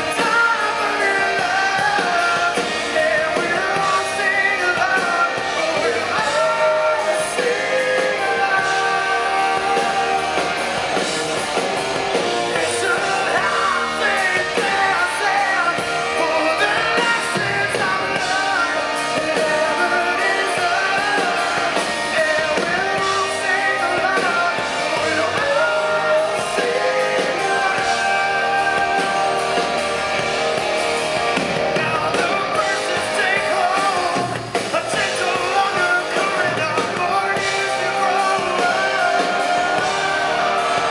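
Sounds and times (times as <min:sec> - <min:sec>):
man singing rock song: 0:00.0 - 0:40.9
rock band playing: 0:00.0 - 0:40.9.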